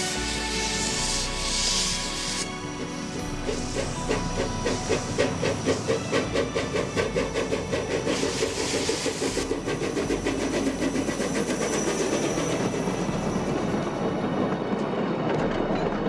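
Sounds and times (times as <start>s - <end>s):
steam hissing: 0.0s - 13.8s
steam locomotive exhaust chuffing: 0.0s - 16.0s.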